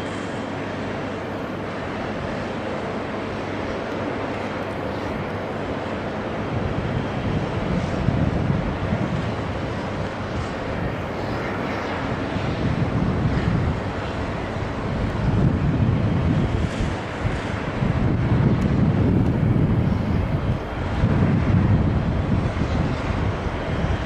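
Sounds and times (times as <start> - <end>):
jet engines running: 0.0 - 24.0
wind buffeting microphone: 1.6 - 24.0.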